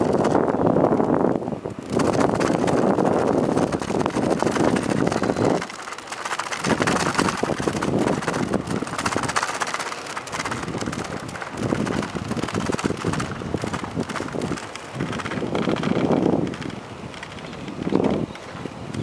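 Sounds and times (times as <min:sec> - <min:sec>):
tyres rattling over wooden planks: 0:00.0 - 0:00.6, 0:01.7 - 0:19.0
wind rushing over microphone: 0:00.0 - 0:19.0.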